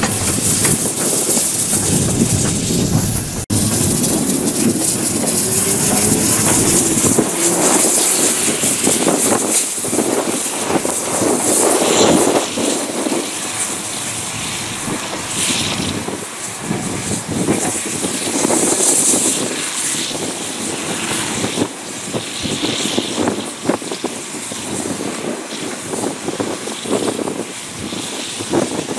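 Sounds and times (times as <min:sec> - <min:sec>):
steam hissing bursts: 0:00.0 - 0:28.9
steam locomotive working slowly: 0:00.0 - 0:28.9.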